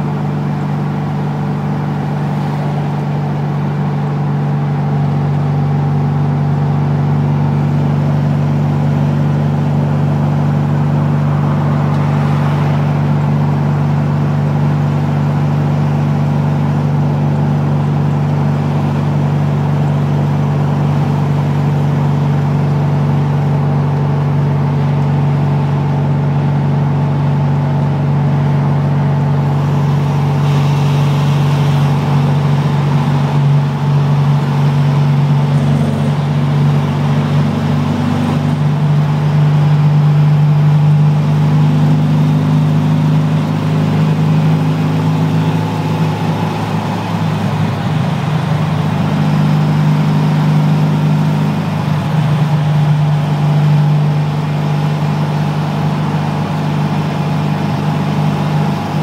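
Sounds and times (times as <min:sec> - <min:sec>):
air-cooled van engine running: 0:00.0 - 0:59.0.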